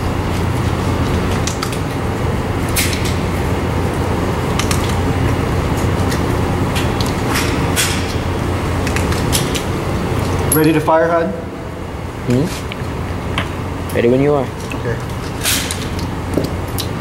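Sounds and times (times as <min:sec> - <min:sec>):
ventilation rushing with low hum: 0:00.0 - 0:17.0.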